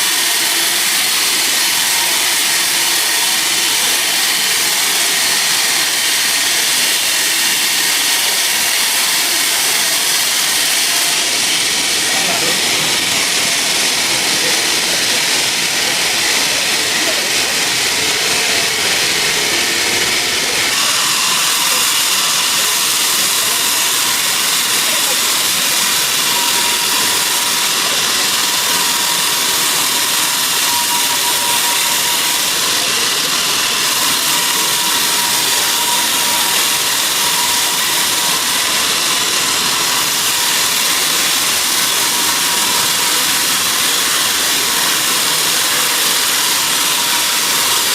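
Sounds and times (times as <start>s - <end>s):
sawmill saw cutting log: 0.0s - 47.9s.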